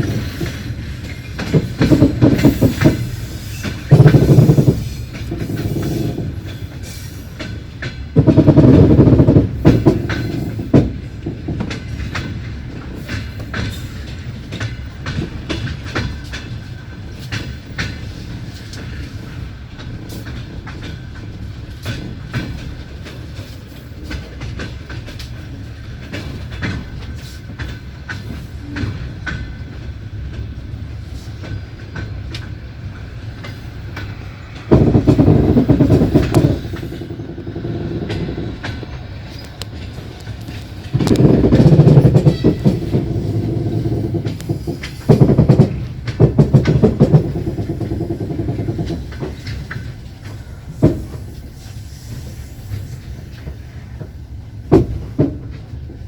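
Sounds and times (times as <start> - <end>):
heavy train clattering: 0.0 - 56.0
train rumbling on rails: 0.0 - 56.0
wheels clicking over rail joints: 0.0 - 56.0.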